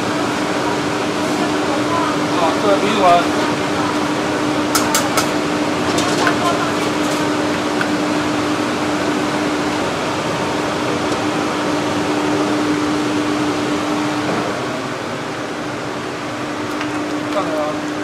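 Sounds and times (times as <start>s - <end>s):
gas burner rushing: 0.0s - 18.0s.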